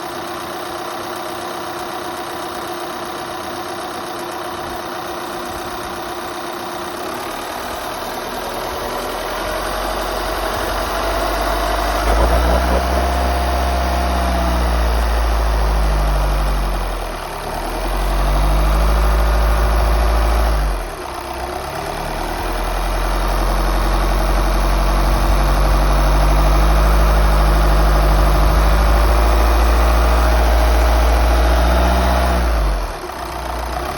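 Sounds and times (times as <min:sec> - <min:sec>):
van engine running: 0:00.0 - 0:33.9.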